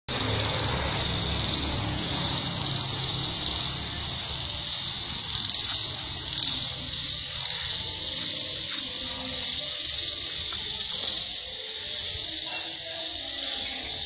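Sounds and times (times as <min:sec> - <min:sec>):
high-pitched insect chirring: 0:00.2 - 0:14.0.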